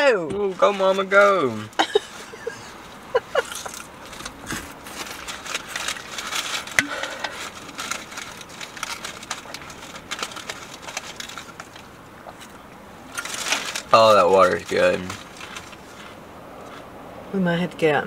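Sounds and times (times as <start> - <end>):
paper wrapper crinkling: 0.5 - 16.2.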